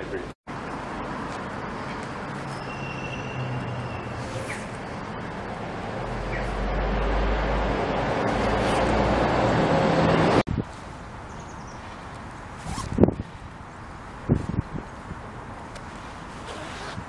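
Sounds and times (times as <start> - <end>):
outdoor background: 0.0 - 17.0
road traffic rushing: 0.5 - 17.0.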